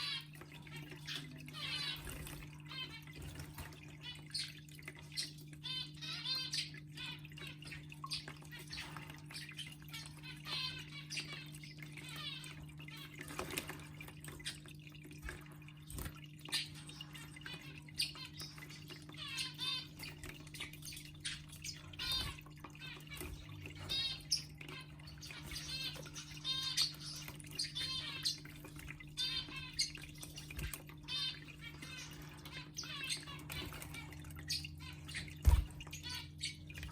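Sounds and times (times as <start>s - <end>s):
water trickling in fountain: 0.0s - 36.9s.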